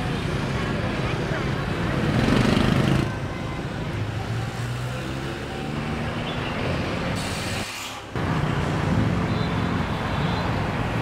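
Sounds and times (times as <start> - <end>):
road traffic engines running: 0.0 - 11.0.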